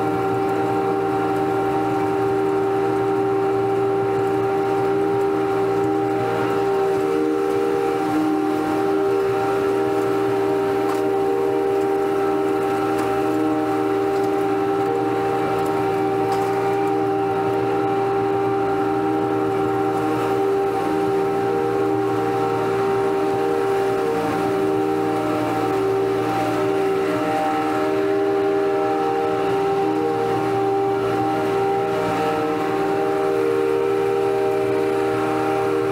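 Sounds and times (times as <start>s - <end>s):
mower whine: 0.0s - 35.9s
riding lawn mower engine drone: 0.0s - 35.9s.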